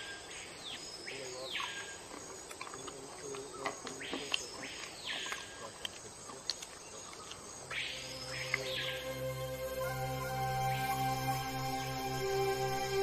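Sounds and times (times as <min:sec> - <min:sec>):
insects rasping calls: 0:00.0 - 0:13.0.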